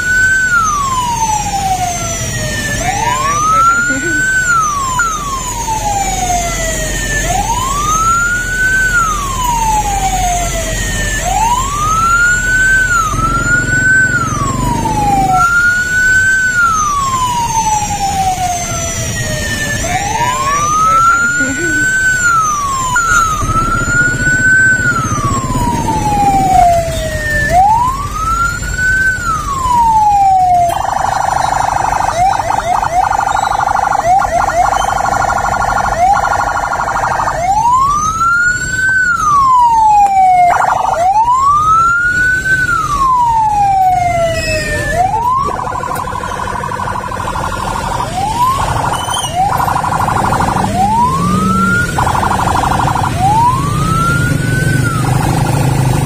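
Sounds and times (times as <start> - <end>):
ambulance siren wailing: 0.0 - 56.0
traffic rumble: 0.0 - 56.0.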